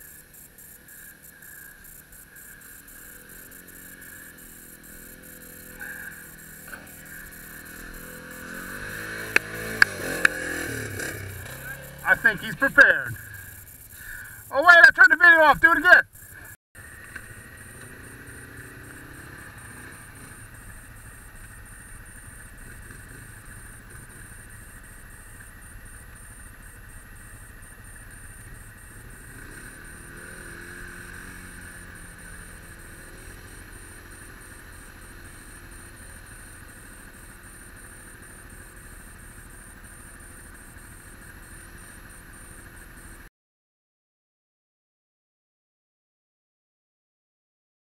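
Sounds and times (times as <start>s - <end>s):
off-road vehicle engines idling: 0.0s - 43.3s
engine revving: 1.4s - 43.3s.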